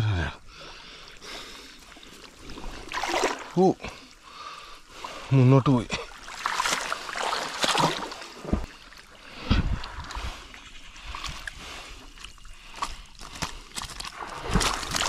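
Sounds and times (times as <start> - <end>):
water sloshing and splashing: 0.4 - 15.0.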